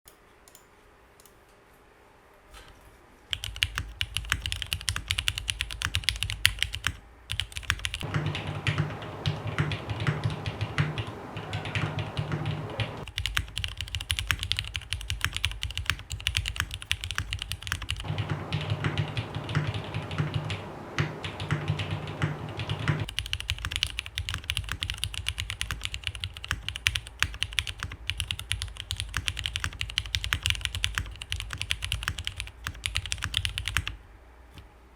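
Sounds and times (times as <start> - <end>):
typing on mechanical keyboard: 3.3 - 34.0.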